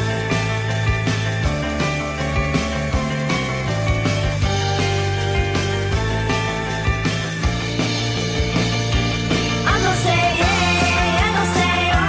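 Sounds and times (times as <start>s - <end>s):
bass: 0.0s - 12.0s
drum beat: 0.0s - 12.0s.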